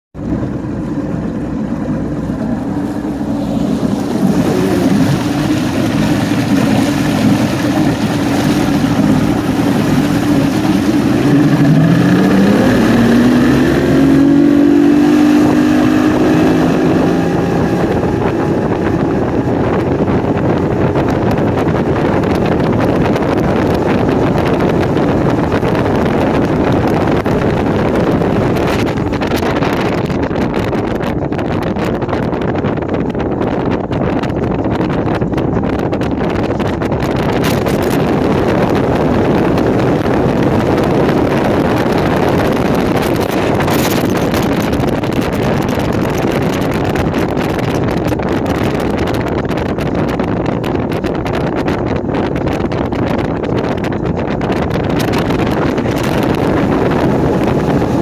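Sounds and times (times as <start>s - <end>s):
outboard motor running: 0.2s - 58.0s
rushing water: 0.2s - 58.0s
wind on microphone: 0.2s - 58.0s.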